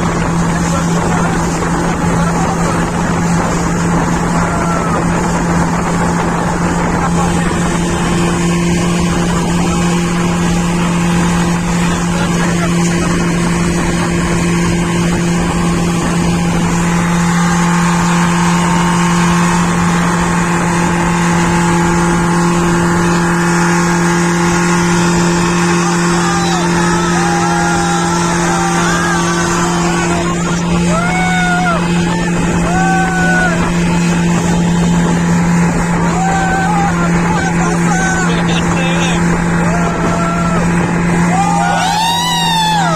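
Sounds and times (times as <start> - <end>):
motorboat engine hum: 0.0 - 42.9.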